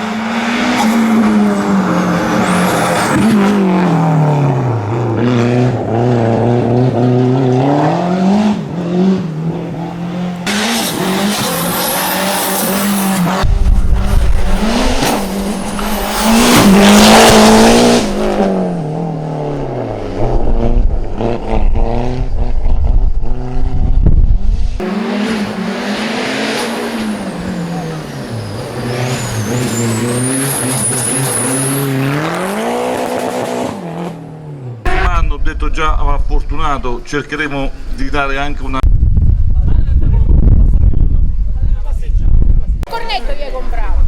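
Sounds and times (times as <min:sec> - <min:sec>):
race car engine revving: 0:00.0 - 0:35.3
harsh tyre noise: 0:00.0 - 0:39.3.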